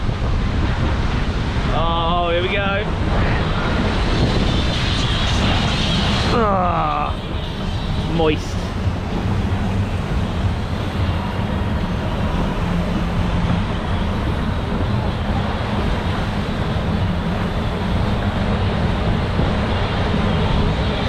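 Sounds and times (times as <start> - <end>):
rushing river rapids: 0.8 - 21.0.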